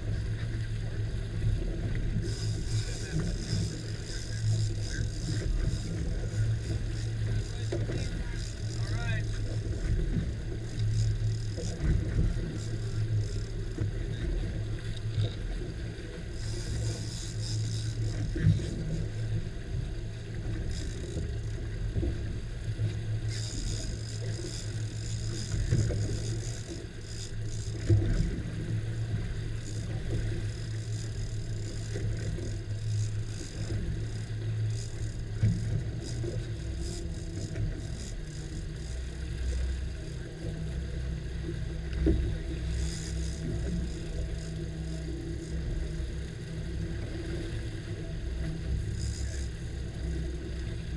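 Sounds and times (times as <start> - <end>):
outboard motors idling: 0.0 - 50.9
water noise: 0.0 - 50.9
wind: 0.0 - 50.9.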